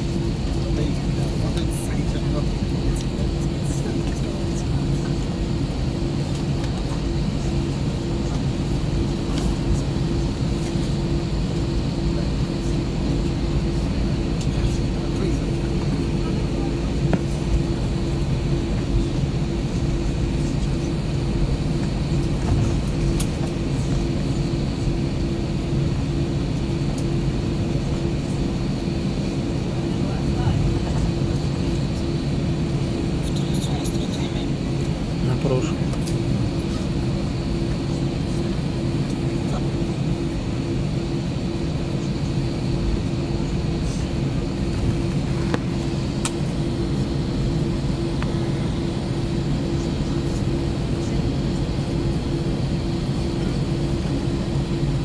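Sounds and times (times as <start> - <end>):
airliner engine drone: 0.0 - 55.0.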